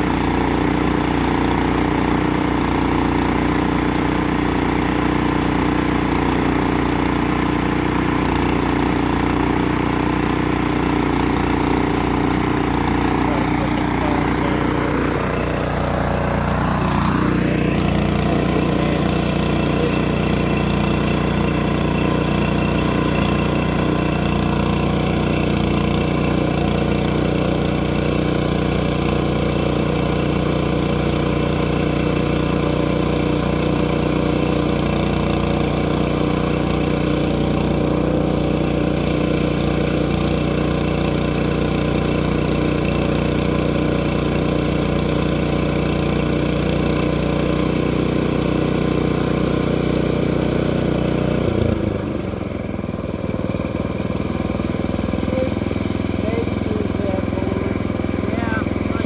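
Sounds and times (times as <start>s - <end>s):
log-milling machine engine running: 0.0s - 59.0s.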